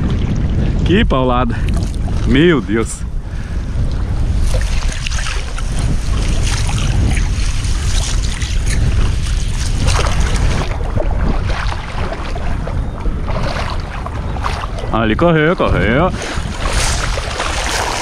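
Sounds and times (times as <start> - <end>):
shallow surf splashing: 0.0 - 18.0
wind buffeting microphone: 0.0 - 18.0.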